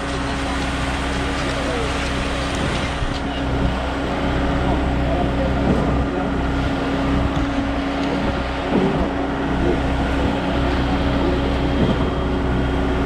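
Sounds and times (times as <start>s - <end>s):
truck engine running under load: 0.0s - 13.0s.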